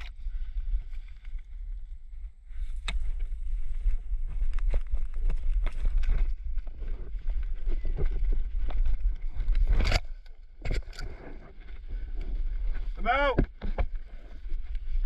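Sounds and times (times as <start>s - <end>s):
low microphone rumble: 0.0s - 15.0s.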